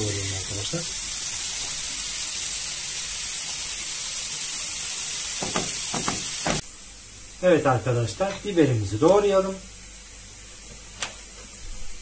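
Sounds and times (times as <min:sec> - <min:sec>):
mushrooms sizzling in a frying pan: 0:00.0 - 0:12.0.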